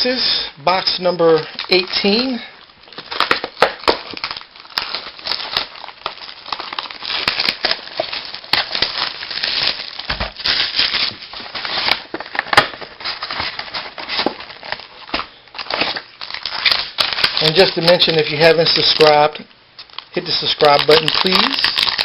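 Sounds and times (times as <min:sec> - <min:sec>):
plastic wrapping crinkling: 0:00.7 - 0:22.0.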